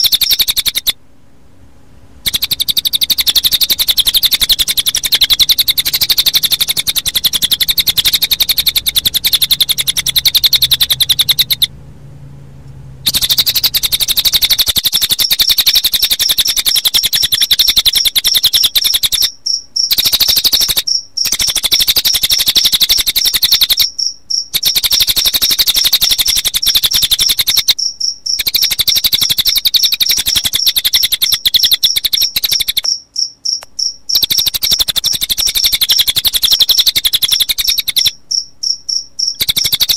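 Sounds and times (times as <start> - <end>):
bird chirping rapidly: 0.0 - 1.0, 2.2 - 11.7, 13.0 - 39.9
high cricket trill: 0.0 - 1.0, 2.2 - 11.7, 13.0 - 39.9.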